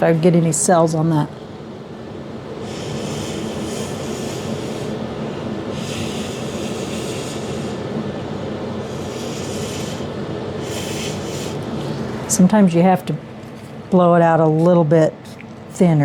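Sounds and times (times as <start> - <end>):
heat gun motor and fan hum: 0.0 - 16.0.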